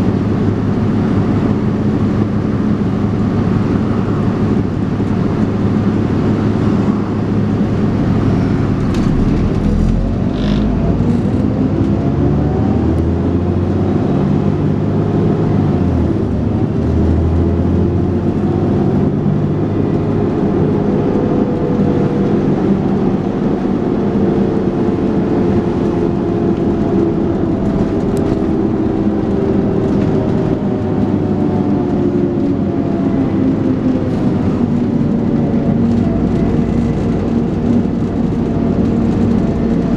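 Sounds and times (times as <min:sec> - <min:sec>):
bus engine accelerating: 0:00.0 - 0:39.9
road rumble: 0:00.0 - 0:39.9.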